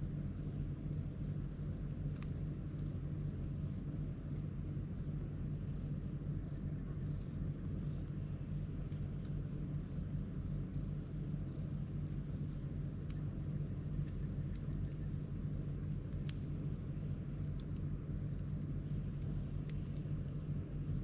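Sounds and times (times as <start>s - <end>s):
insects chirping: 2.4s - 21.0s.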